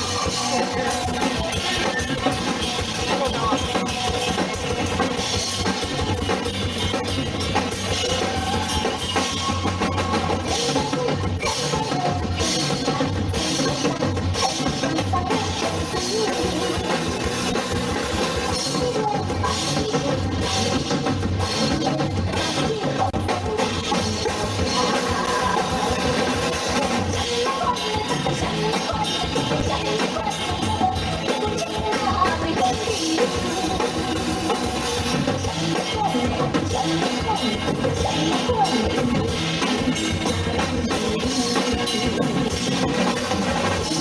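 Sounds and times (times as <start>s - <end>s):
drum kit: 0.0s - 44.0s
guitar: 0.0s - 44.0s
live rock band: 0.0s - 44.0s.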